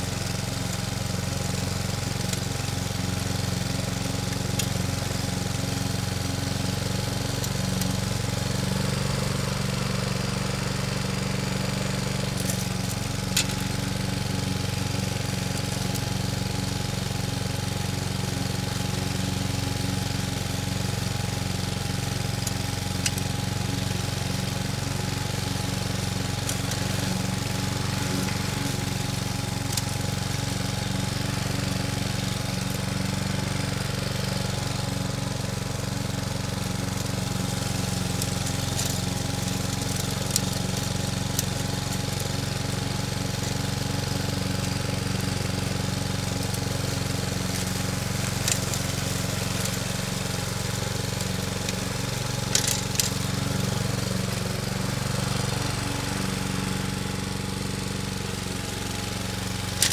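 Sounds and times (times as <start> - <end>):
lawn mower running: 0.0 - 59.9.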